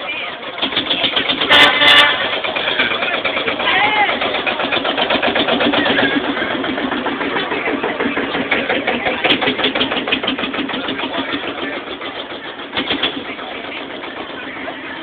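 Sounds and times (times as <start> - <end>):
vehicle engine chugging: 0.0 - 15.0.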